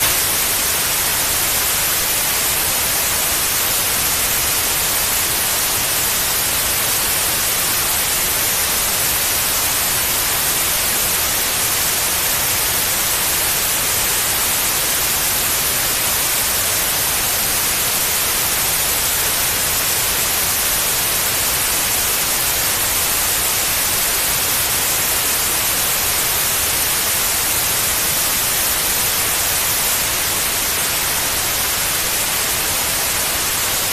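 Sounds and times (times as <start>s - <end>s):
steady white noise hiss: 0.0s - 33.9s.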